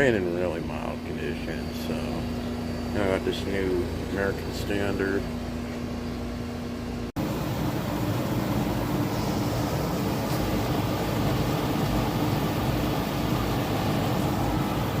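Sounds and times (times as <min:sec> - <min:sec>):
compressor humming: 0:00.0 - 0:15.0
condenser fan blowing: 0:00.0 - 0:15.0.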